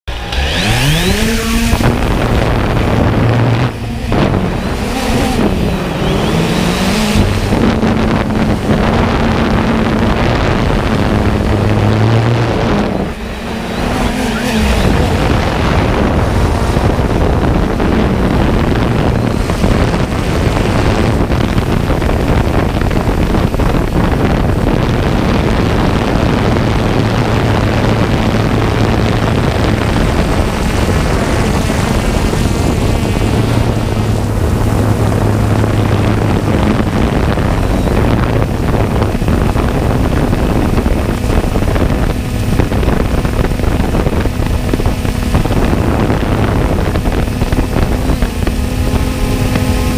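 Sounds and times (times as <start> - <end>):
jet ski engine running: 0.1 - 49.9
wind buffeting microphone: 0.1 - 49.9.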